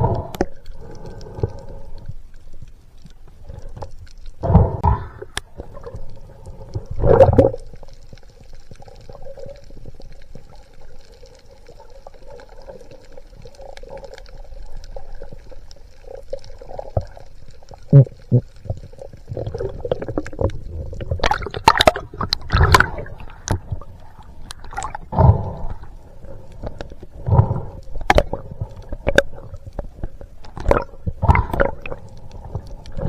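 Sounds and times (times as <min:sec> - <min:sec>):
underwater gushing surges: 0:00.0 - 0:02.0, 0:04.4 - 0:33.0.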